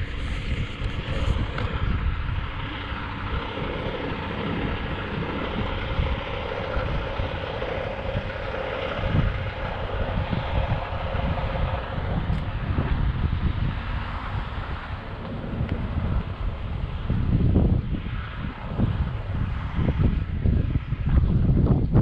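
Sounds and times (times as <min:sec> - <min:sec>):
steady mid-pitched hum: 0:00.0 - 0:22.0
wind buffeting microphone: 0:00.0 - 0:22.0.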